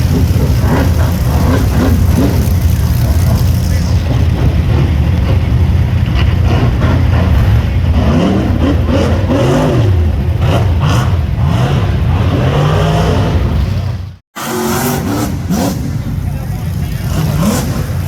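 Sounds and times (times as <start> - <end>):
buggy engine revving: 0.0 - 18.0.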